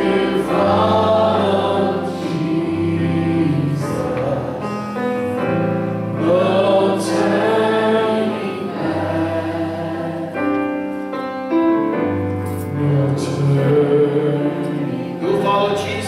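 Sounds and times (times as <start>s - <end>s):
electric keyboard chords: 0.0s - 16.0s
person singing a hymn: 0.0s - 16.0s.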